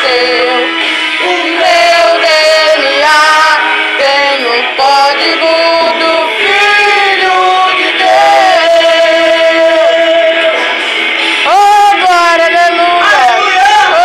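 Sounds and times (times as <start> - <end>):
backing track through speaker: 0.0 - 14.0
man singing gospel song: 0.0 - 14.0.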